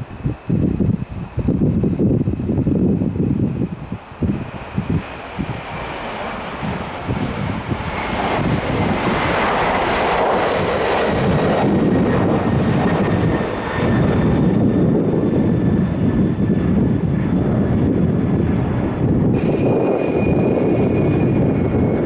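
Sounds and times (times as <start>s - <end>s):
jet airliner passing: 0.0s - 22.0s.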